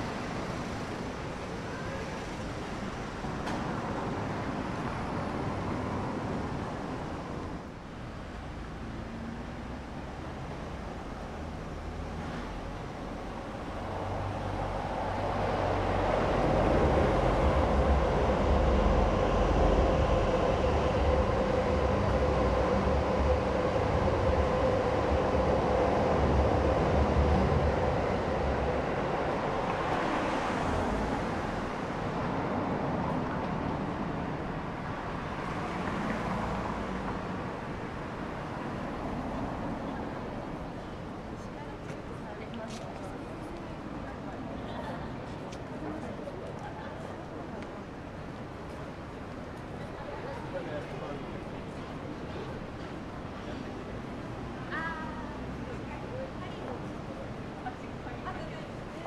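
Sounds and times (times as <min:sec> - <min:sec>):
train passing rumble: 0:00.0 - 0:59.0.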